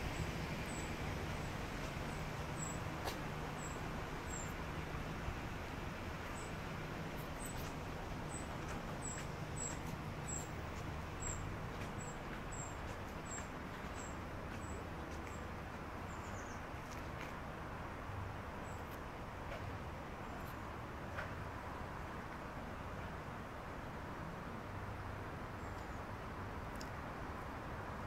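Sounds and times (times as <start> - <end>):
distant traffic rumble: 0.0 - 28.0.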